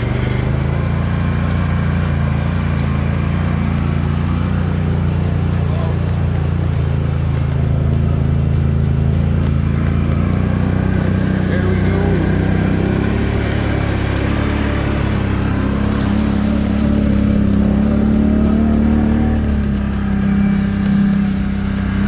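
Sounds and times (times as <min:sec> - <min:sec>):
off-road bike engine running: 0:00.0 - 0:22.0.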